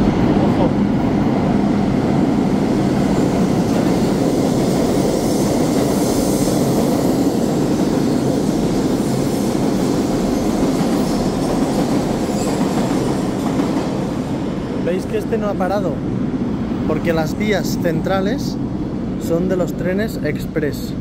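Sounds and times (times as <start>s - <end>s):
train wheels rumbling on rail: 0.0s - 20.5s.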